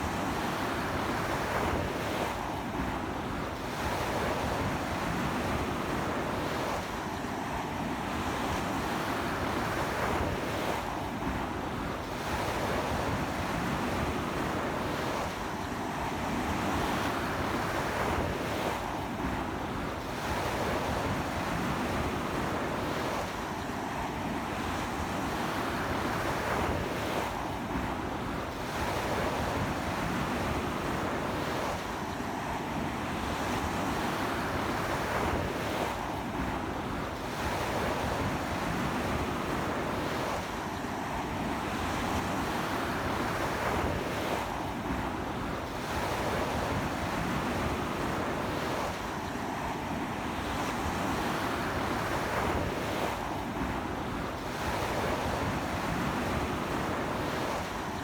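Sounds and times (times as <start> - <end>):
waves breaking on beach: 0.0 - 58.0.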